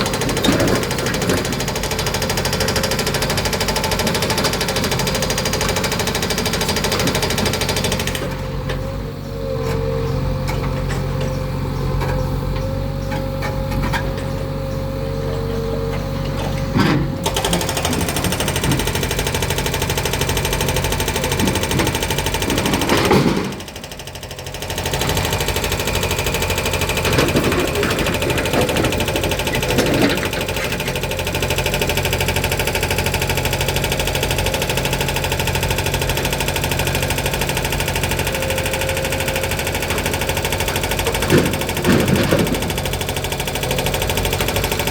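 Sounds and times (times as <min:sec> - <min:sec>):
diesel engine running rattly: 0:00.0 - 0:44.9.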